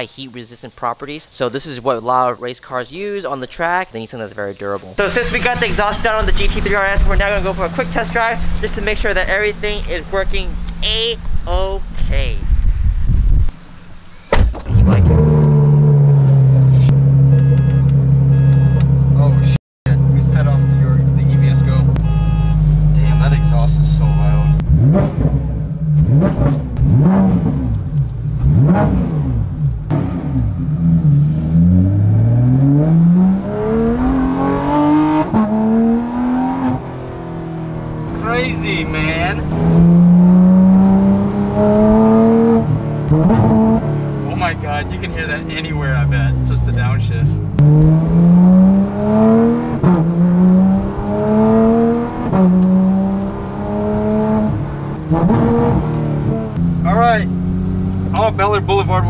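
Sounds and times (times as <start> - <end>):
car engine revving: 5.0 - 59.0.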